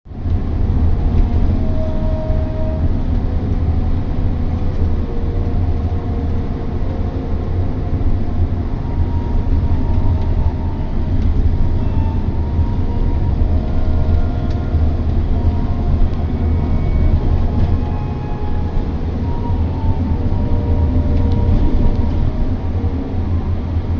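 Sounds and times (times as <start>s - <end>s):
vehicle engine and road noise: 0.1s - 23.9s.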